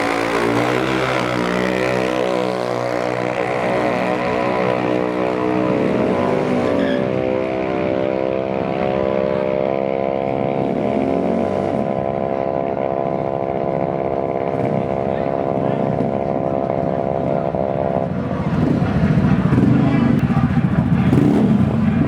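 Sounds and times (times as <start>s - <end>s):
scooter engines droning: 0.0s - 22.0s.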